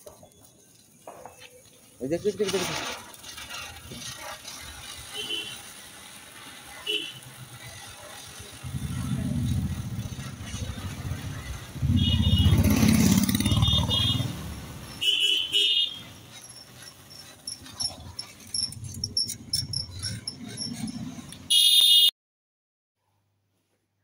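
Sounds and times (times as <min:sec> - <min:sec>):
firework fountains hissing and crackling: 0:00.0 - 0:21.7.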